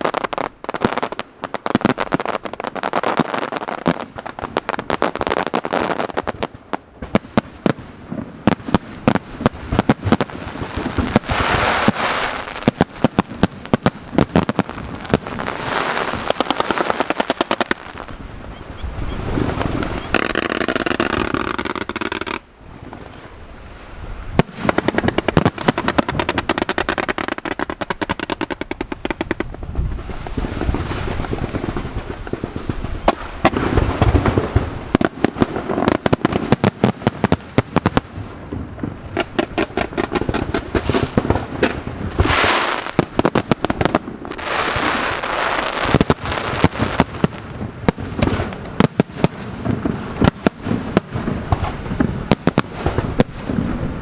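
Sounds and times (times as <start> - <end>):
firework bangs and crackles: 0.0 - 54.0
firework rush: 0.0 - 54.0.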